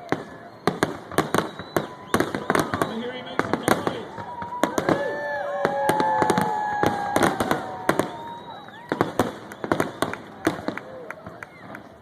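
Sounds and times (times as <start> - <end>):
fireworks bangs: 0.0 - 12.0
whistling firework shells: 0.0 - 12.0.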